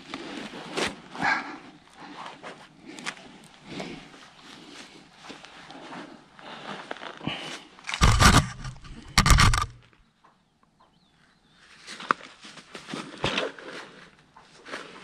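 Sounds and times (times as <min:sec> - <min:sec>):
clothing scraping rope and rock: 0:00.0 - 0:10.0, 0:11.9 - 0:15.0.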